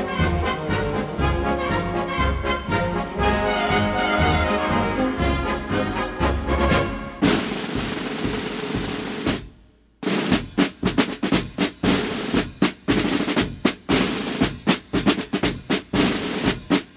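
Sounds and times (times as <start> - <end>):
snare drums playing: 0.0 - 16.9.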